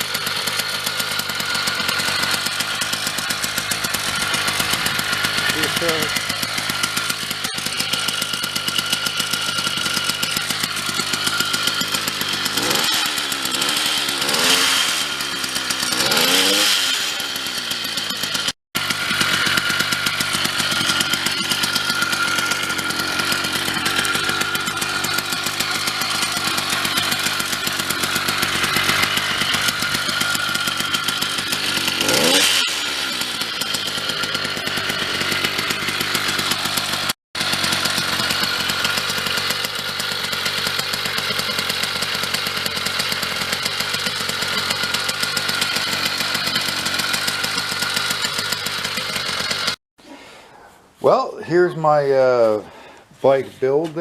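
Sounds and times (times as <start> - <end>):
two-stroke engine revving: 0.0 - 49.8.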